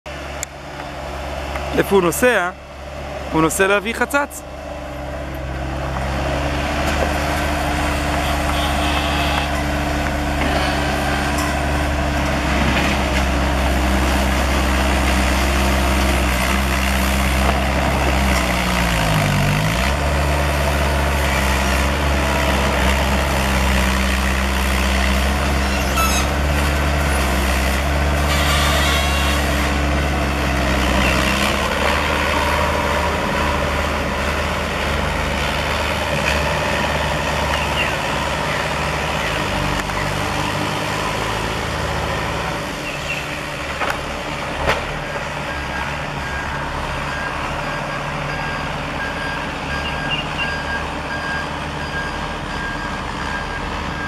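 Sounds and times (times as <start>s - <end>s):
diesel engines running: 0.1s - 54.0s.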